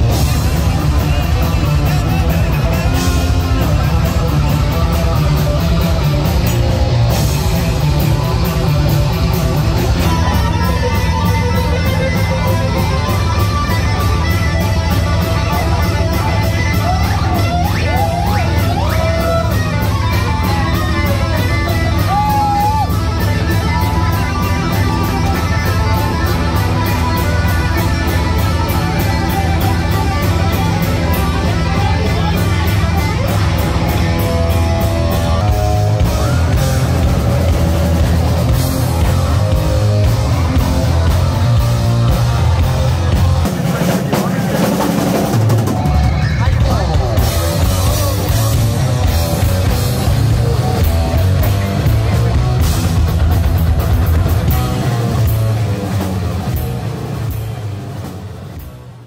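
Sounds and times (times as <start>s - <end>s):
heavy metal music: 0.0s - 59.0s.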